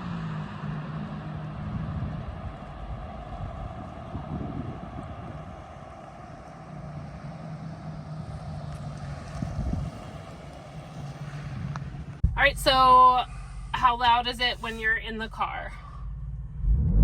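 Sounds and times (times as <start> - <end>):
low engine exhaust note: 0.0 - 17.0.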